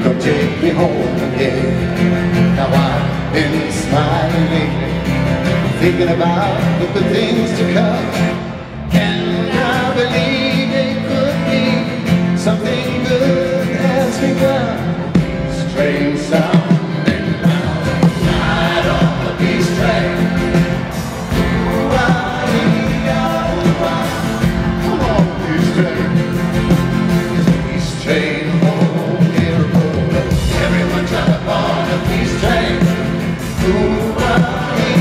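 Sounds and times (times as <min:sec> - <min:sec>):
gospel choir singing: 0:00.0 - 0:35.0
live rock band playing: 0:00.0 - 0:35.0.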